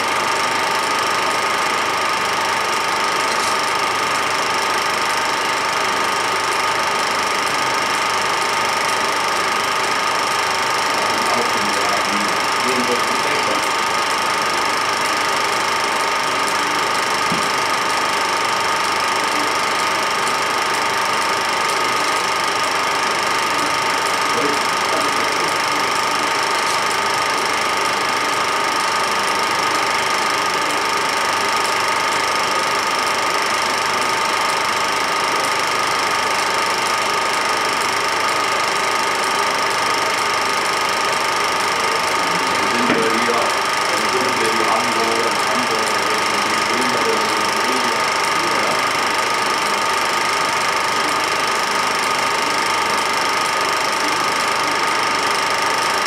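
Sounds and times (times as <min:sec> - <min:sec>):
machine running with hiss: 0:00.0 - 0:56.0.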